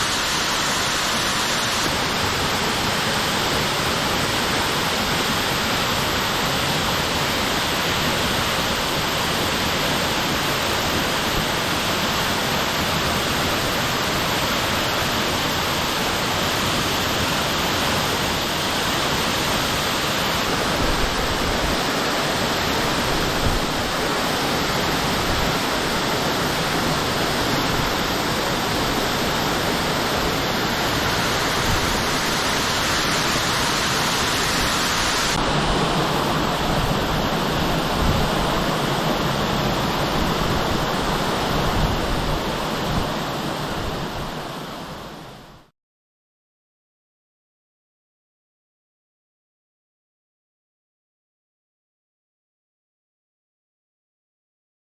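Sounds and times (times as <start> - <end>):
waterfall crashing into pool: 0.0 - 45.7.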